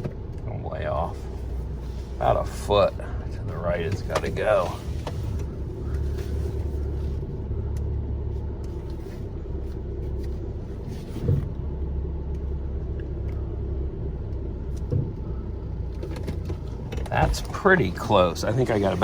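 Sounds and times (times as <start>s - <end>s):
vehicle engine running low: 0.0s - 19.0s.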